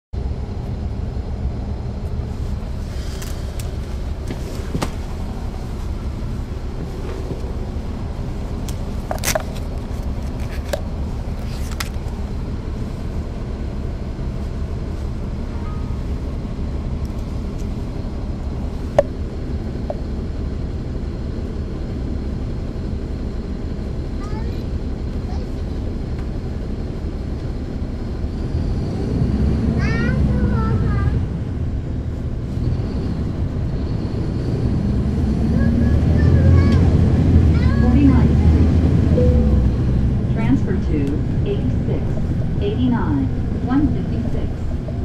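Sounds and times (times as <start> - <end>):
bus diesel engine running: 0.2 - 45.0.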